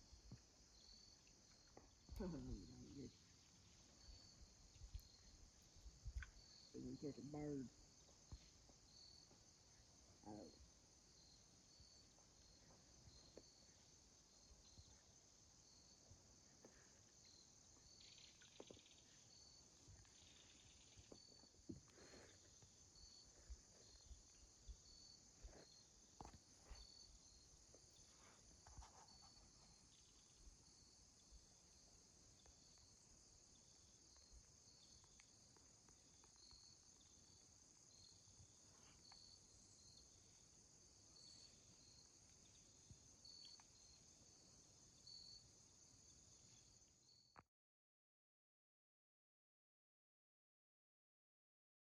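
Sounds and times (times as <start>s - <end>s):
insects droning and chirping: 0.0s - 47.4s.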